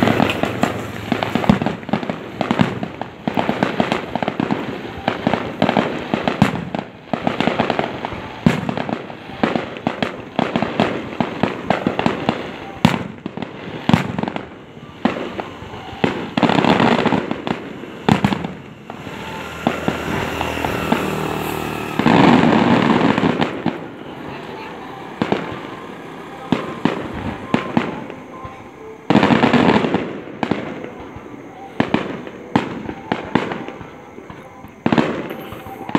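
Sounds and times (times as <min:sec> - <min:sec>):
fireworks bangs with crackling: 0:00.0 - 0:35.9.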